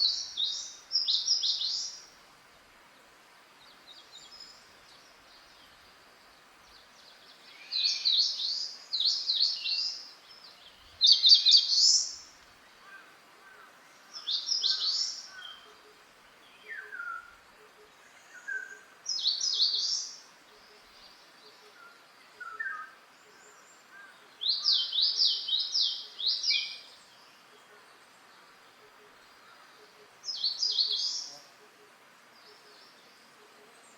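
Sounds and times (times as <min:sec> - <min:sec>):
faint background noise: 0:00.0 - 0:33.9.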